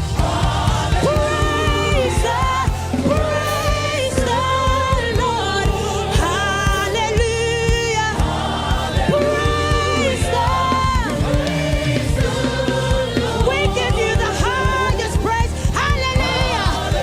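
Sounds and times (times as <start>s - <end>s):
bass and drums: 0.0s - 17.0s
lead singer holding long notes: 0.0s - 17.0s.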